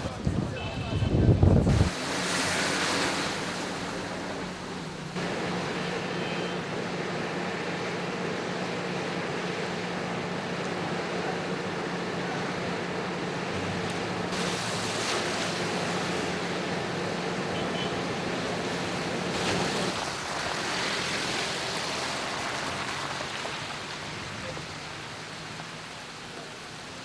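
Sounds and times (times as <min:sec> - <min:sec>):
storm wind and water rushing: 0:00.0 - 0:05.8, 0:06.7 - 0:26.2.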